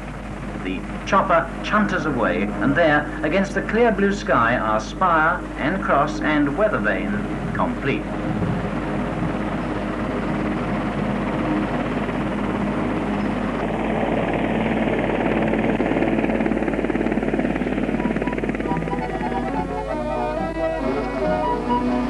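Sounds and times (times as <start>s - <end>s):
helicopter engine hum: 0.0s - 22.0s
helicopter rotor beat: 0.0s - 22.0s.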